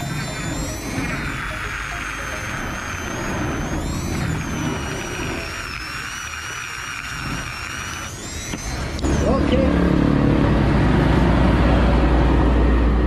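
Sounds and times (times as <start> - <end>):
power grinder whining on metal: 0.0 - 11.5.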